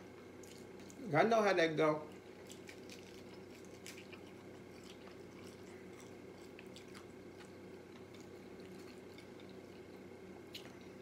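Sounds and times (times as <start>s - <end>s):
chewing fried chicken: 0.0s - 1.2s, 2.0s - 11.0s
steady low hum: 0.0s - 11.0s.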